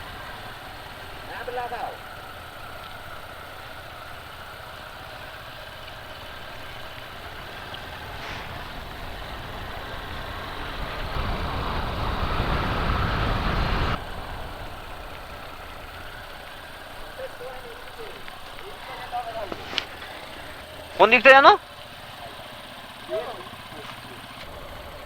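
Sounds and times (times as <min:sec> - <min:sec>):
motor vehicle engine running: 0:00.0 - 0:25.0.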